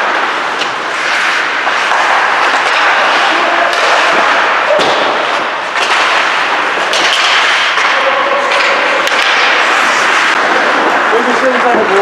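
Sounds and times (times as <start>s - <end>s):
hockey sticks and puck cracking: 0.0s - 12.0s.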